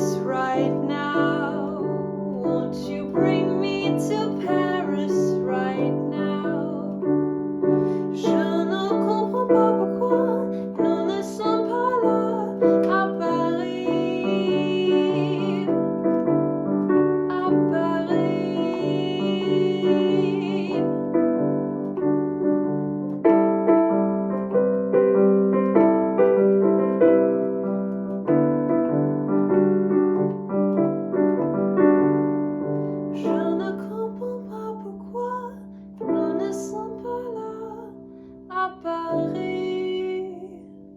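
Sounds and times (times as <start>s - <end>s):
piano playing slow chords: 0.0s - 40.9s.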